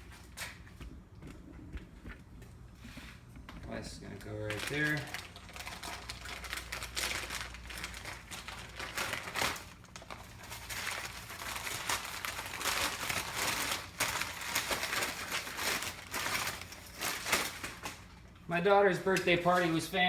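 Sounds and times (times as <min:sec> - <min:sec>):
packing material crinkling: 0:03.7 - 0:20.0.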